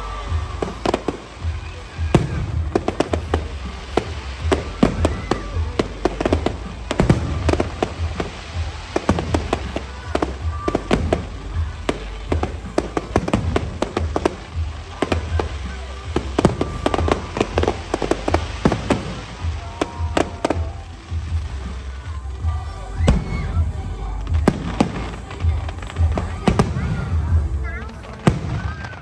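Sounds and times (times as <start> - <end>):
aerial fireworks bangs and crackles: 0.0 - 29.0.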